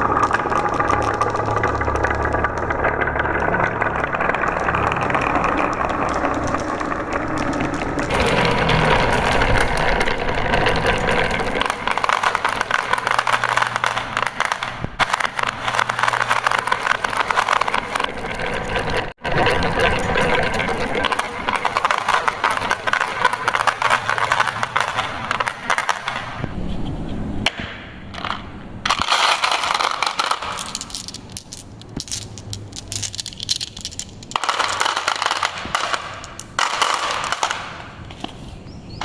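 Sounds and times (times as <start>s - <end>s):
marbles rattling down a wooden run: 0.0s - 26.4s, 28.2s - 38.0s.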